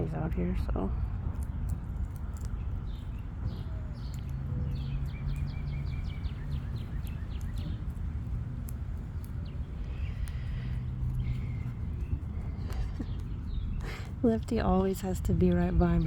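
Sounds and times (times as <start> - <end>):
low outdoor hum: 0.0 - 16.0
songbird chirping: 0.0 - 16.0.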